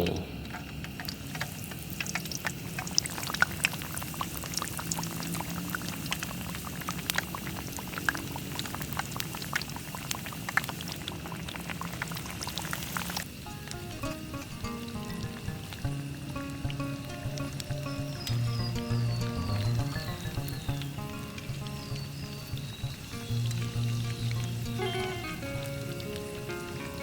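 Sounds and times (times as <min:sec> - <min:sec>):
food frying in hot oil: 0:00.0 - 0:27.0.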